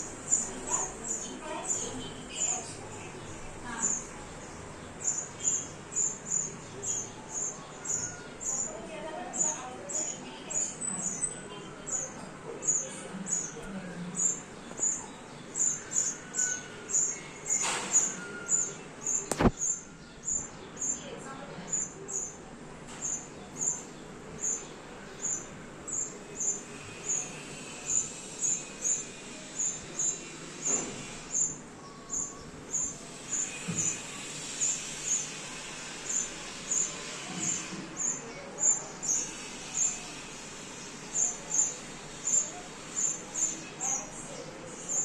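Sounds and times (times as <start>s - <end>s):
sparrow chirping: 0.0s - 22.4s, 23.0s - 45.0s.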